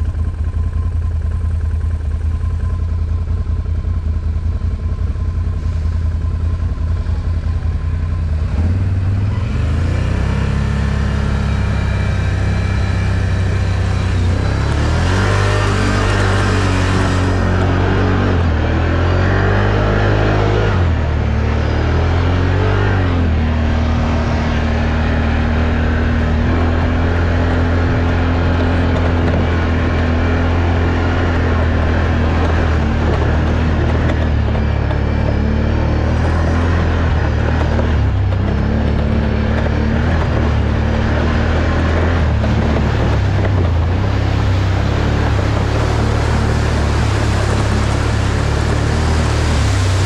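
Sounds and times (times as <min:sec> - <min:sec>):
off-road vehicle engine droning: 0:00.0 - 0:50.0.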